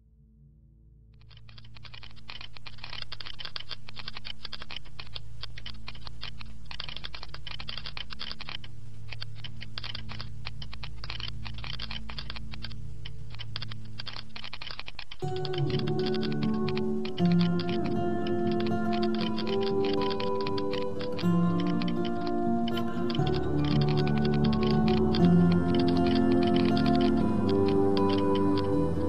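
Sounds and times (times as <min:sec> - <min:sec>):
low steady hum: 0:00.0 - 0:29.0
keyboard typing: 0:01.2 - 0:29.0.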